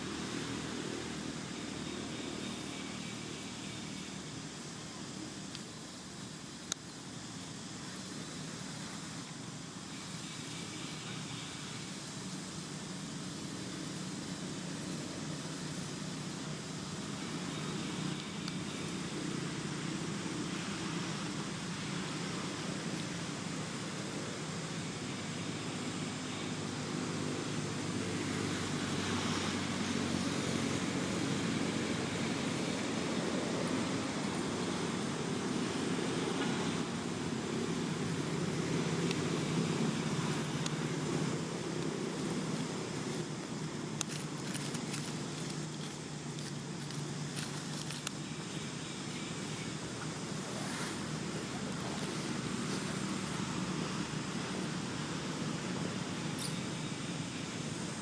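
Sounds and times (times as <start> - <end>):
background hiss: 0.0 - 58.0.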